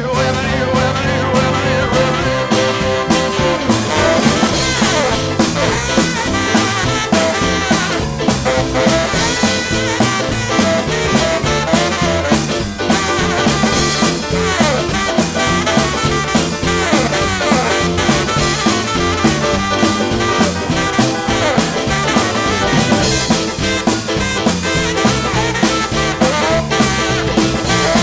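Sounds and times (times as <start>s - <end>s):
swing band playing: 0.0s - 28.0s.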